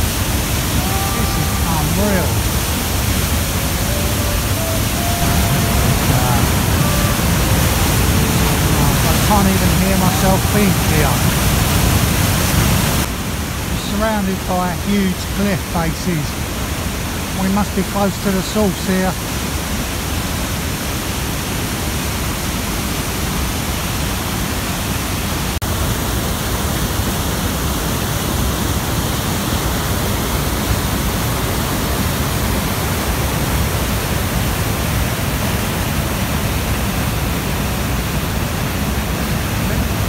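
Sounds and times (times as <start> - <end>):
roar of river rapids: 0.0 - 40.0.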